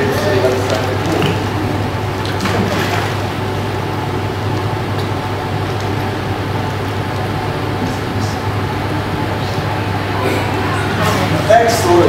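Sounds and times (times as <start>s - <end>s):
low mechanical hum: 0.0s - 12.0s
water and room noise: 0.0s - 12.0s.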